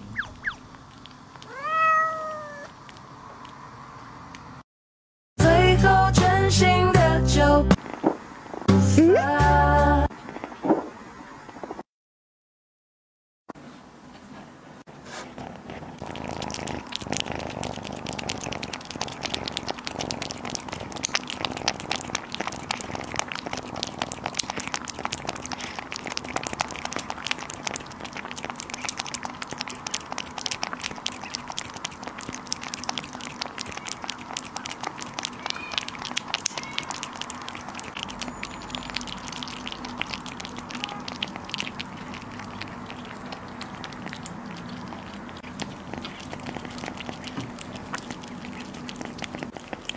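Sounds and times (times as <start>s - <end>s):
kittens licking and slurping: 0.4s - 3.6s, 5.5s - 11.8s, 14.8s - 49.9s.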